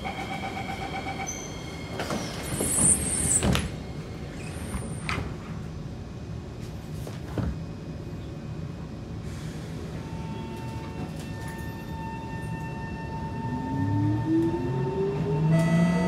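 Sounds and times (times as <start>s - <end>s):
train high whine: 0.0s - 6.5s, 9.1s - 16.0s.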